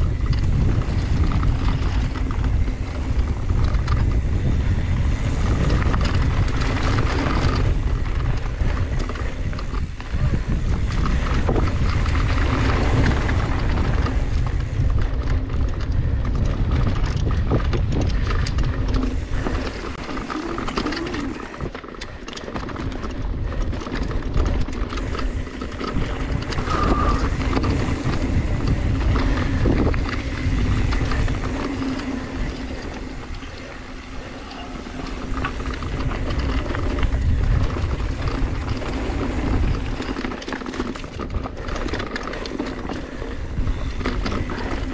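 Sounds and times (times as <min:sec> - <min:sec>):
bike clicks and rattles: 0:00.0 - 0:44.9
tyres rumbling on loose dirt: 0:00.0 - 0:44.9
wind buffeting microphone: 0:00.0 - 0:44.9.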